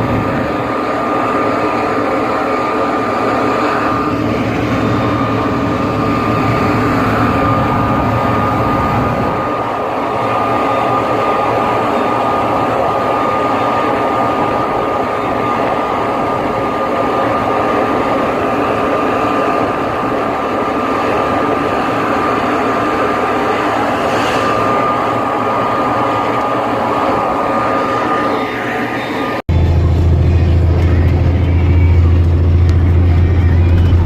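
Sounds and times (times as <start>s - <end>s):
high whine: 0.0s - 34.0s
truck engine and road drone: 0.0s - 34.0s.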